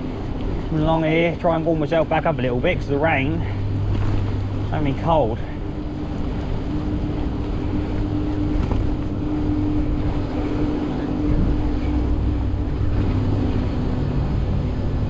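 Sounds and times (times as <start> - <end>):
bicycle tyres rolling on wet path: 0.0 - 15.0
steady low hum: 0.0 - 15.0
wind rushing over microphone: 0.0 - 15.0.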